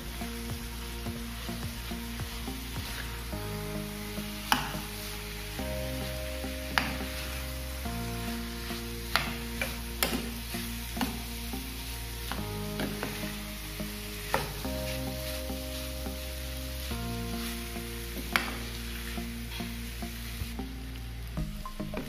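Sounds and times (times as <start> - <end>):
oil sizzling in a pan: 0.0 - 22.0
soft background music: 0.0 - 22.0.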